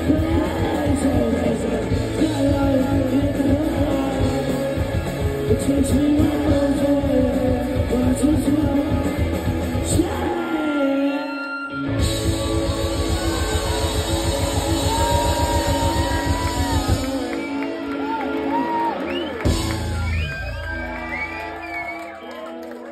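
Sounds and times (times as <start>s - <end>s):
fast driving drum beat: 0.0s - 10.6s, 12.0s - 17.5s, 18.6s - 21.4s
person singing: 0.0s - 18.8s
rock band playing: 0.0s - 22.8s
electric guitar: 0.0s - 22.9s.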